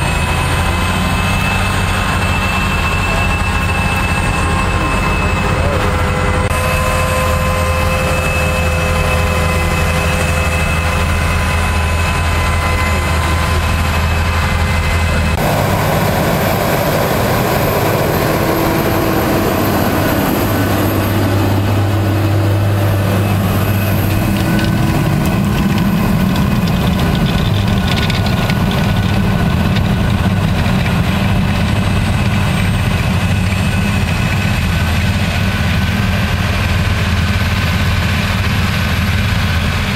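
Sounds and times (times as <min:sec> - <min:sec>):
tractor diesel engines under load: 0:00.0 - 0:39.9.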